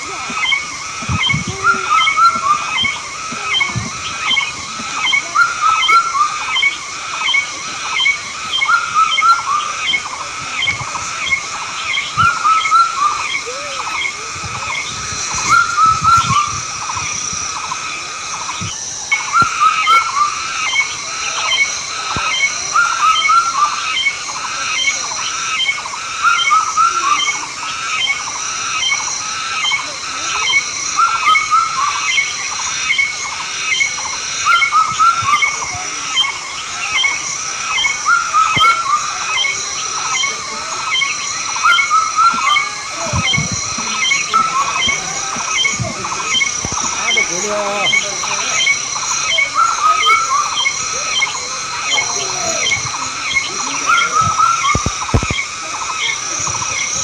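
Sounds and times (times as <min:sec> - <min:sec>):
repeated animal calls: 0:00.0 - 0:57.0.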